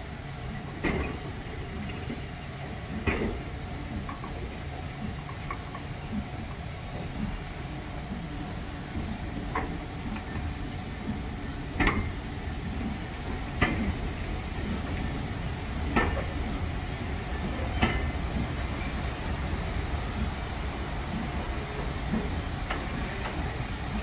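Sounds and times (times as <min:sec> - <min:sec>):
train rumble: 0:00.0 - 0:24.0
train wheels knocking on rail joints: 0:00.5 - 0:24.0.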